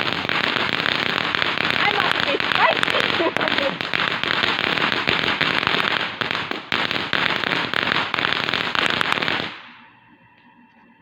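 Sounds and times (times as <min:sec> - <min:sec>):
firework crackling: 0:00.0 - 0:09.9.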